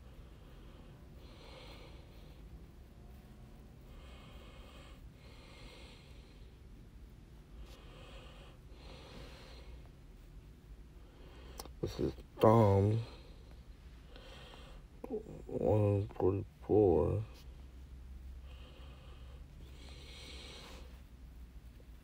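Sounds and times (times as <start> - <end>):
soft nasal breathing: 0.0 - 22.0.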